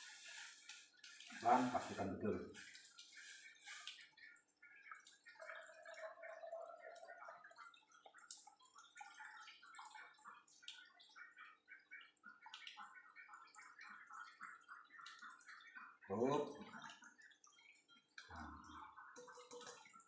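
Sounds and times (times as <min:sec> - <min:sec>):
liquid trickling through a strainer: 0:00.0 - 0:20.0
small drips and splashes: 0:00.0 - 0:20.0.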